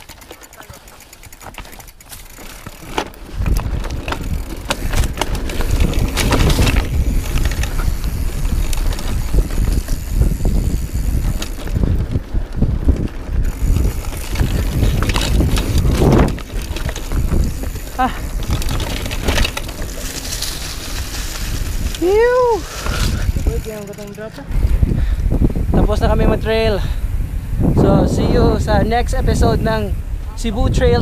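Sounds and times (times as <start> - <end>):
freewheel hub clicking: 0.0 - 30.5
bike rattling over bumps: 0.0 - 31.0
bike tyres rumbling: 0.0 - 31.0.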